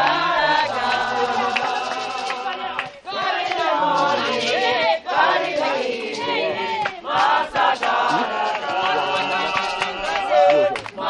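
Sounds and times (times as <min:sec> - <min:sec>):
group singing a gospel hymn: 0:00.0 - 0:11.0.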